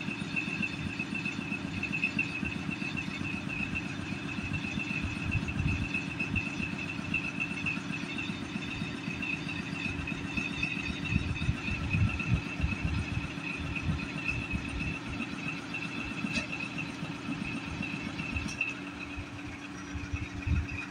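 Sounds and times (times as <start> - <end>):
locomotive engine rumbling: 0.0 - 20.9.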